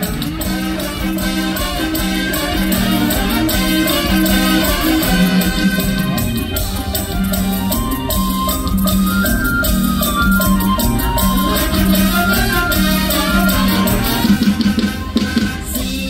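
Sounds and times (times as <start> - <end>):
folk-pop band through pa: 0.0 - 16.0
held bass notes: 0.0 - 16.0
shaker-like percussion: 0.0 - 16.0.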